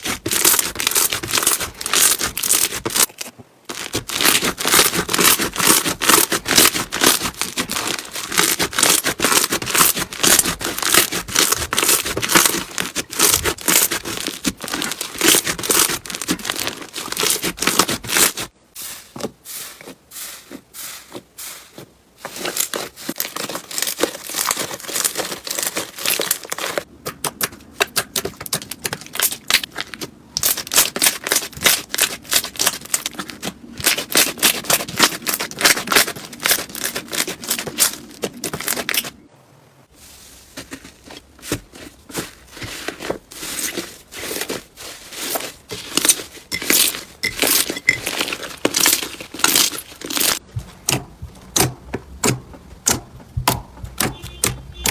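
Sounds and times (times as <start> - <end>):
slime crackling and popping: 0.0 - 18.5, 22.4 - 39.1, 43.7 - 54.9.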